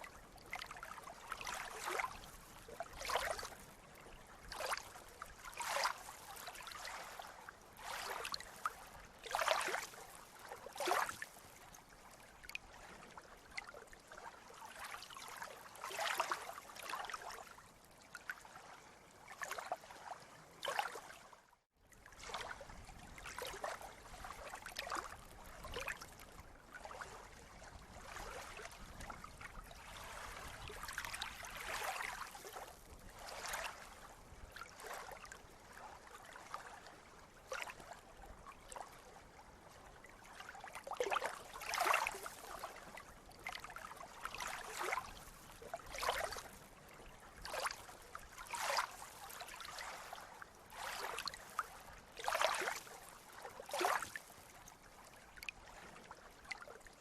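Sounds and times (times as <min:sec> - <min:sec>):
sea water lapping and splashing: 0:00.0 - 0:57.0.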